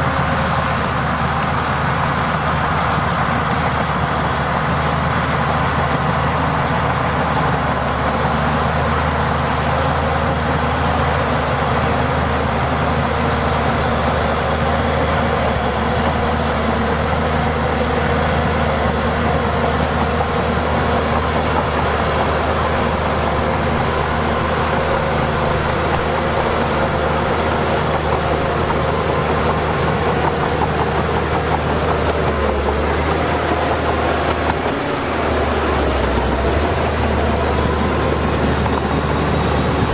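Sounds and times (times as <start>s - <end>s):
diesel machinery engines running: 0.0s - 39.9s.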